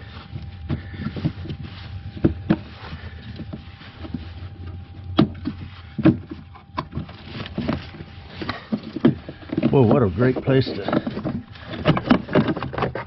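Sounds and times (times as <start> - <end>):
hand rubbing plastic covers: 0.0 - 13.0
steady low hum: 0.0 - 13.0.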